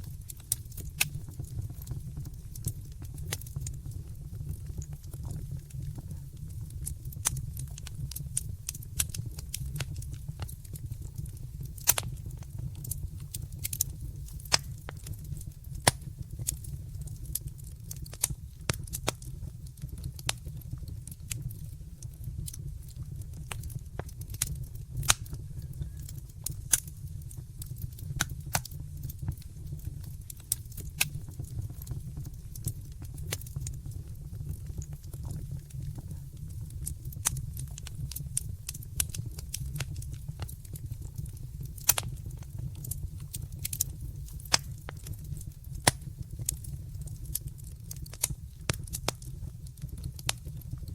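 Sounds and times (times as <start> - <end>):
low rumble of flames: 0.0 - 50.9
sharp snaps and pops: 0.0 - 50.9
wood fire crackling: 0.0 - 50.9.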